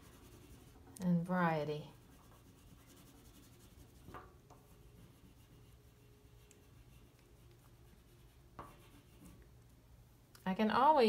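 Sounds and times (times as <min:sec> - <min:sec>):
pastel scratching on paper: 0:00.0 - 0:09.4.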